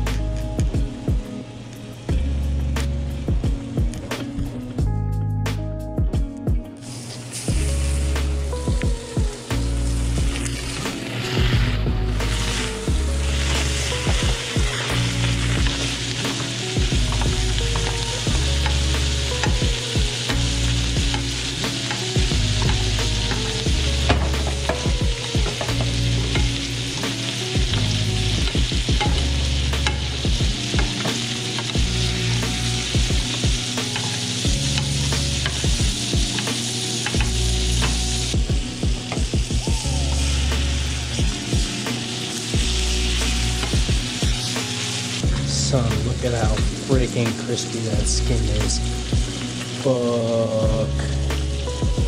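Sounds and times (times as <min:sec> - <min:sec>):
fish sizzling in a skillet: 0:06.7 - 0:52.0.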